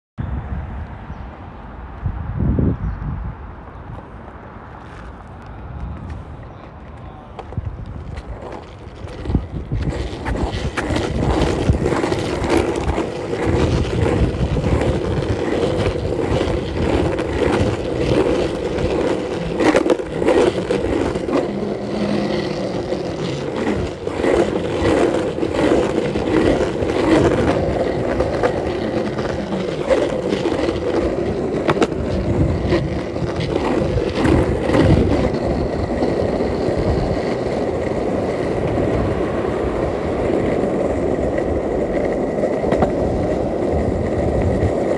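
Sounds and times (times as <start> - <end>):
skateboard wheels rolling on asphalt: 0.2 - 44.9
wheels clicking over cracks: 4.8 - 44.9.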